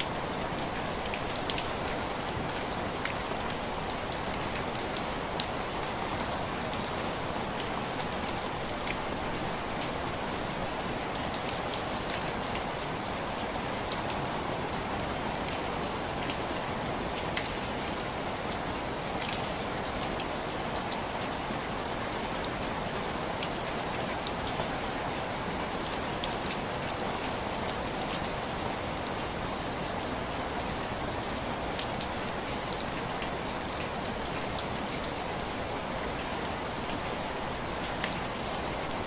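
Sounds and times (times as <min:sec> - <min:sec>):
rain on window glass: 0:00.0 - 0:39.0.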